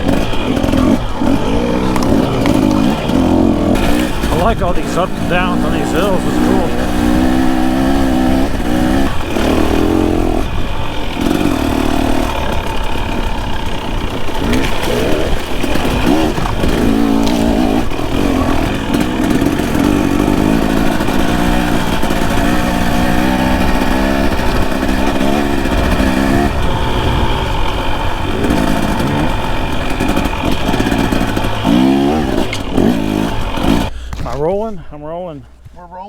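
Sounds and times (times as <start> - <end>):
dirt bike engine revving: 0.0 - 35.7.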